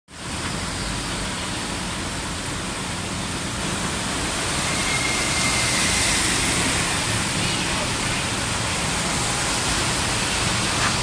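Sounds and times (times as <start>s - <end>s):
water rushing on flooded street: 0.1s - 11.0s.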